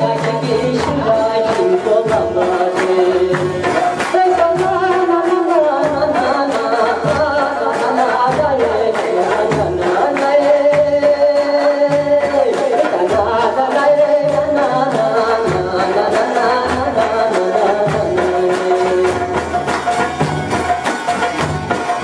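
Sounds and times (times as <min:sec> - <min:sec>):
man singing: 0:00.0 - 0:19.5
hand-drum beat: 0:00.0 - 0:22.0
plucked sitars: 0:00.0 - 0:22.0.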